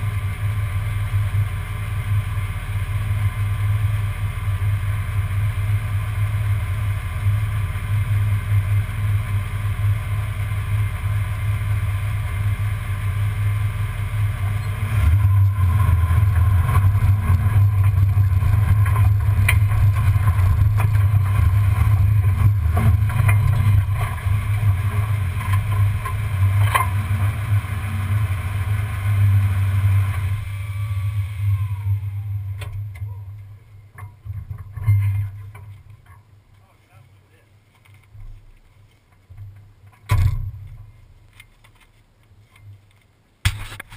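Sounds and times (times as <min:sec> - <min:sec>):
falling whine: 0:00.0 - 0:35.7
truck engine running: 0:00.0 - 0:37.2.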